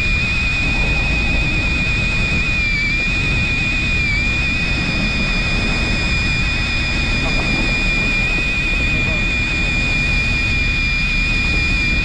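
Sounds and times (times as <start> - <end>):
high-pitched motor whine: 0.0 - 12.0
low rumble: 0.0 - 12.0.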